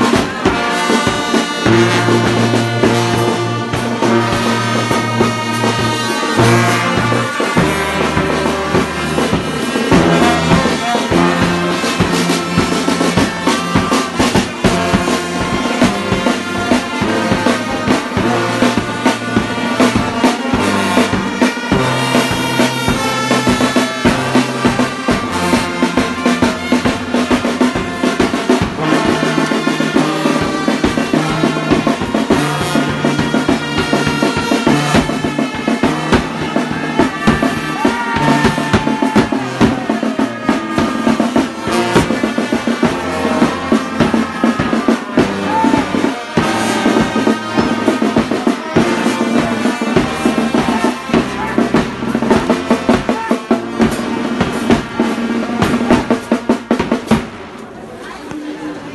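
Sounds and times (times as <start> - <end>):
bass drum beating: 0.0 - 57.4
marching brass band playing: 0.0 - 58.9.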